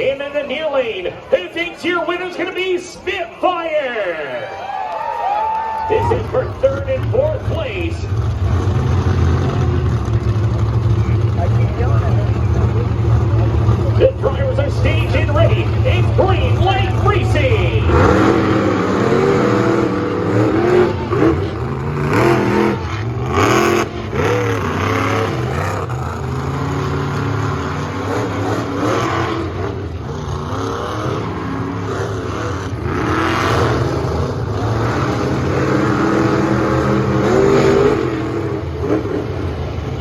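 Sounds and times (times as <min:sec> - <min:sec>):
monster truck engines revving: 0:00.0 - 0:40.0.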